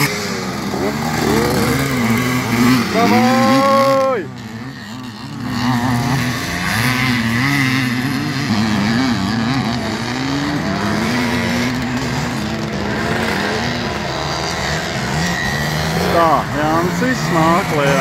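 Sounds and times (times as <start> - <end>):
motocross motorcycles racing: 0.0 - 18.0.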